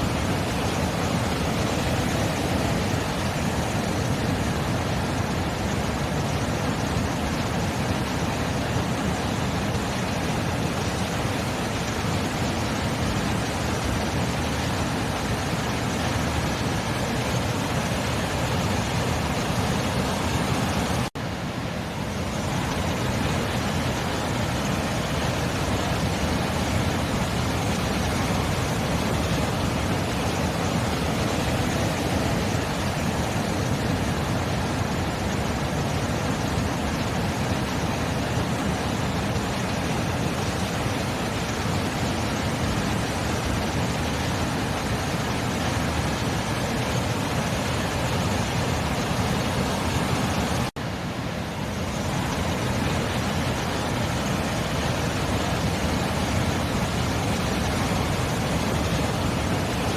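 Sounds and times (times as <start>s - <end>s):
sea surf rushing: 0.0s - 59.9s.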